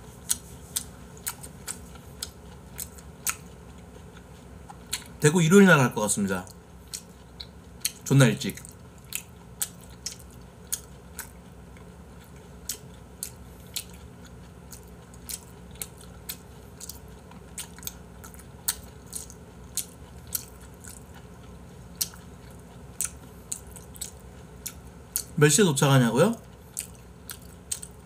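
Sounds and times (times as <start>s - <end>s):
person chewing with wet mouth clicks: 0.3s - 5.1s, 6.9s - 8.0s, 8.6s - 21.3s, 22.0s - 25.4s, 26.4s - 28.0s.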